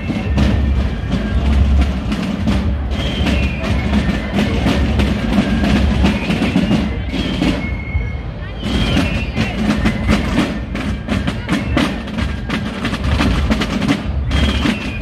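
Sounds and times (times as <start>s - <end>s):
marching drums: 0.0s - 15.0s.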